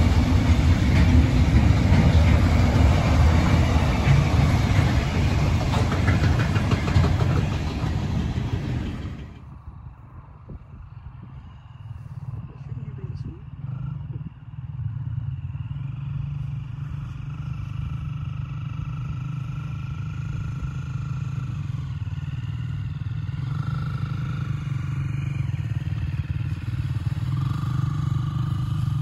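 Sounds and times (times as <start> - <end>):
distant dirt bike engines whining: 0.0 - 29.0.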